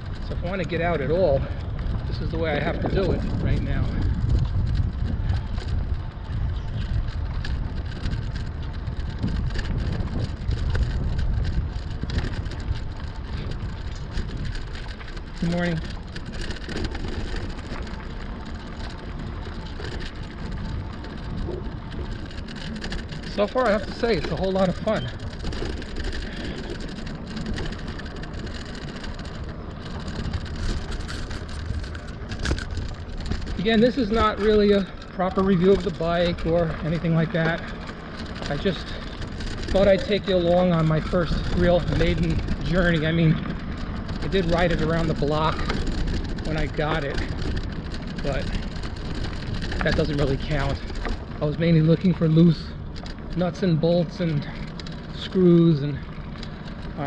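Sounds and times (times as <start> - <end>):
bike tyres rolling on trail: 0.0 - 57.0
small clicks and rattles: 0.0 - 57.0
tire rumble on path: 0.0 - 57.0
wind buffeting microphone: 0.0 - 57.0.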